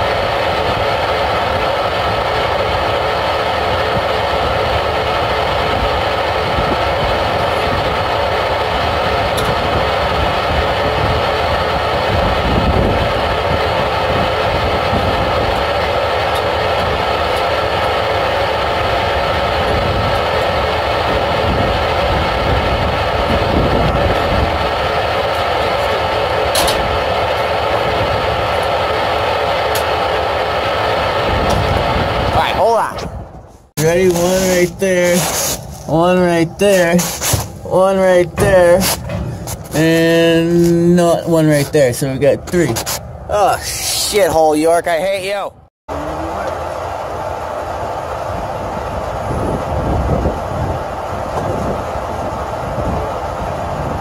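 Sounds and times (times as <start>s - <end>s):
machinery drone: 0.0s - 54.0s.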